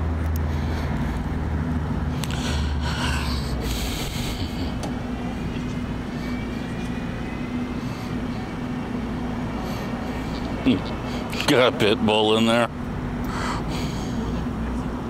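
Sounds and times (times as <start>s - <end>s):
engine hum: 0.0s - 15.0s
faint whine: 0.6s - 15.0s.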